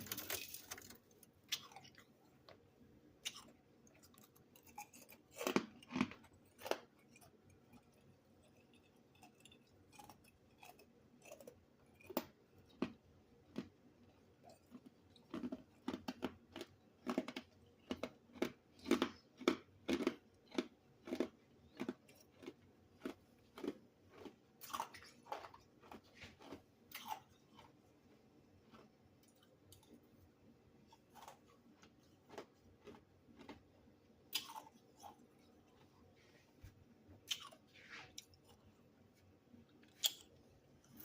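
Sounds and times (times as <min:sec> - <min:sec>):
chewing crunchy ice: 0:00.0 - 0:02.6, 0:03.2 - 0:30.2, 0:30.8 - 0:36.2, 0:37.2 - 0:38.8.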